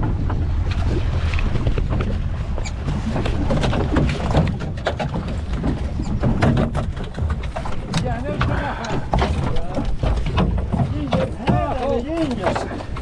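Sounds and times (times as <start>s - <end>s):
boat engine running: 0.0s - 13.0s
wind rumbling on microphone: 0.0s - 13.0s.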